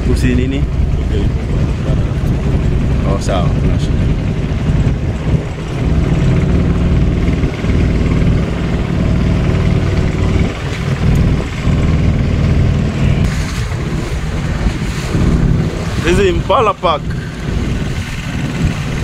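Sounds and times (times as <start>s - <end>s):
motorboat engine humming: 0.0s - 19.0s.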